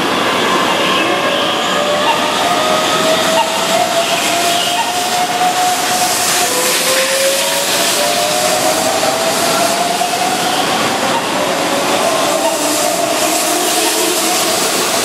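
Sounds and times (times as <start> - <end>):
train rolling noise with hiss: 0.0 - 15.0.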